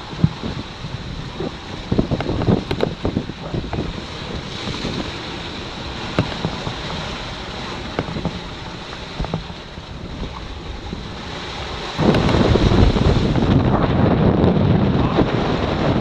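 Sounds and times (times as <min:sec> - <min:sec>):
wind and sea noise: 0:00.0 - 0:16.0
wind buffeting microphone: 0:00.0 - 0:16.0.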